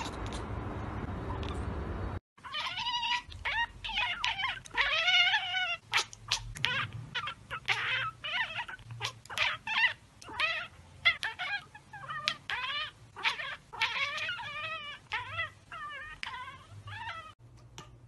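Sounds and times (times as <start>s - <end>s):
cat chattering chirps: 2.4s - 17.4s.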